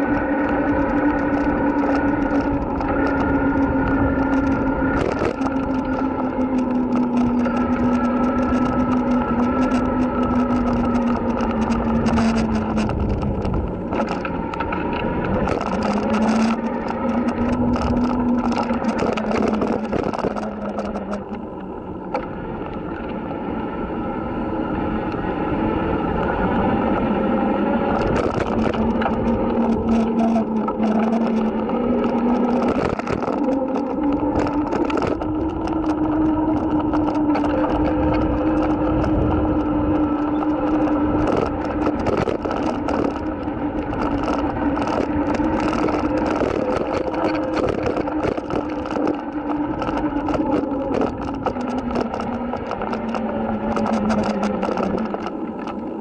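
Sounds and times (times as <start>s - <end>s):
electric bike motor whining: 0.0s - 56.0s
wind on microphone: 0.0s - 56.0s.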